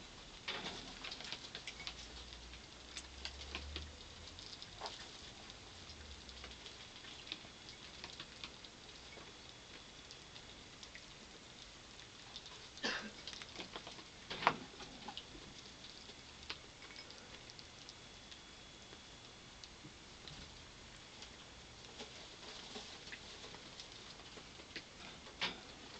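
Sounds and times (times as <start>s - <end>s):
rats eating with small clicks: 0.0s - 25.9s.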